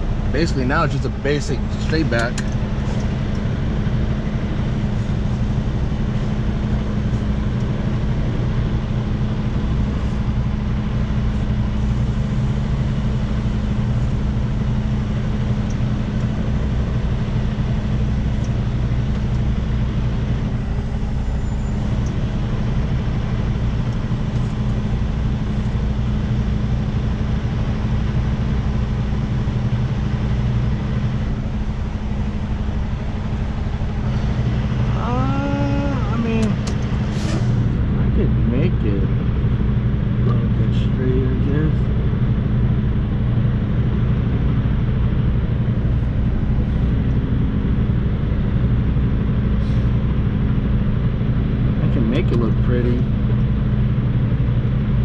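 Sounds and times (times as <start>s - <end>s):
truck diesel engine idling: 0.0s - 55.0s.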